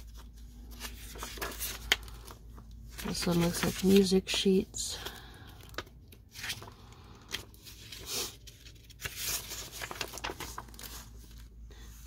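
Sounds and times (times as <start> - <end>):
paper sheets rustling: 0.0 - 12.0.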